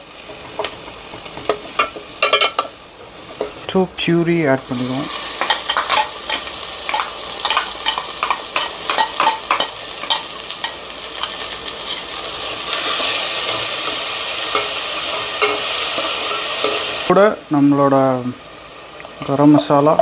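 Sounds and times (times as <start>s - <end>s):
onions frying sizzle: 0.0s - 20.0s.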